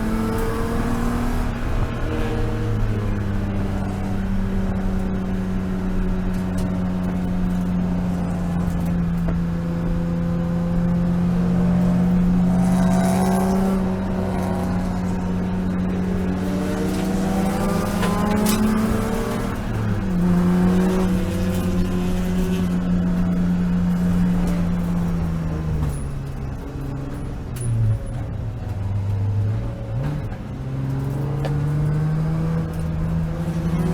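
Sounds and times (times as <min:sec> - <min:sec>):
race car engine running: 0:00.0 - 0:33.9.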